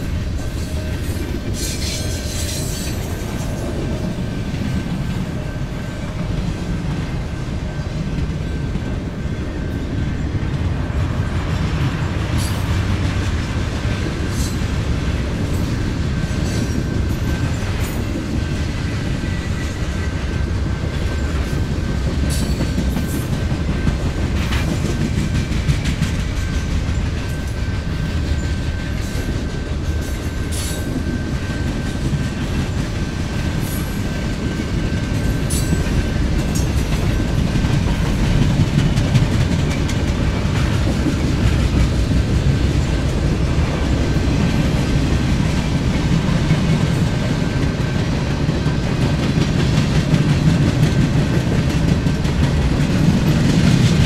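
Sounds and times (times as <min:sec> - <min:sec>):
train ride rumble: 0:00.0 - 0:54.0.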